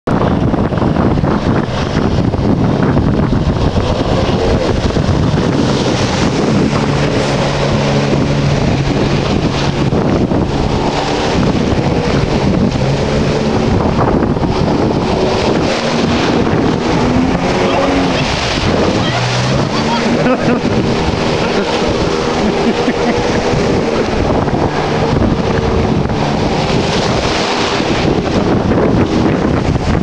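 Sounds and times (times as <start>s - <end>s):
wind buffeting microphone: 0.0s - 30.0s
jet ski engine: 0.1s - 30.0s
surf breaking: 0.1s - 30.0s.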